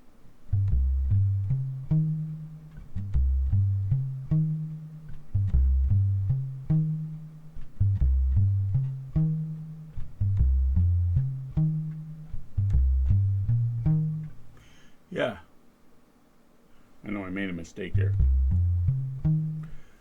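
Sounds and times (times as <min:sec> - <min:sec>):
muted electric bass plucking: 0:00.5 - 0:14.7, 0:17.9 - 0:19.9.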